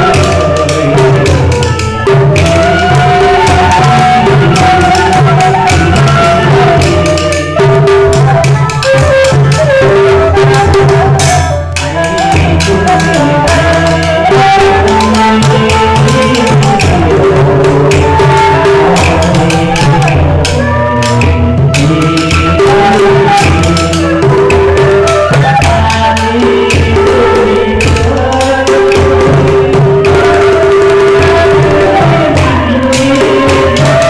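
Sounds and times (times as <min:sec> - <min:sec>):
hand-played barrel drum: 0:00.0 - 0:34.0
stick-struck small drum: 0:00.0 - 0:34.0.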